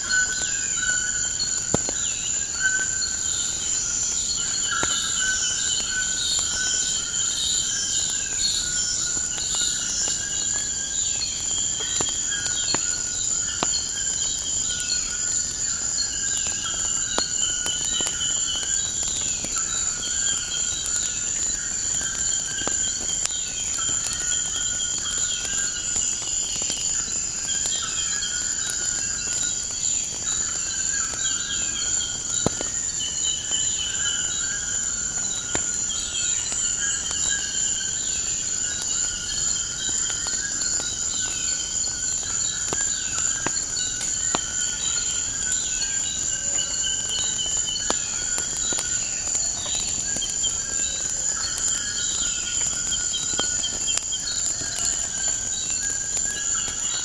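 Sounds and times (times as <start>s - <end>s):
insect trill: 0.0s - 57.0s
wood fire crackling: 0.0s - 57.0s.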